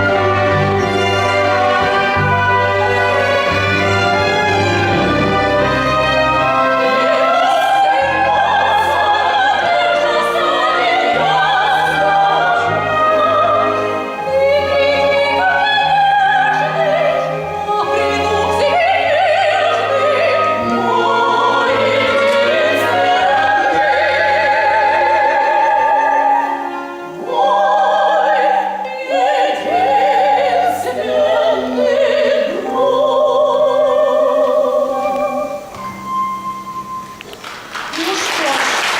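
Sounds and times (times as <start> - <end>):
operatic singing: 0.0 - 35.8
symphony orchestra: 0.0 - 38.9.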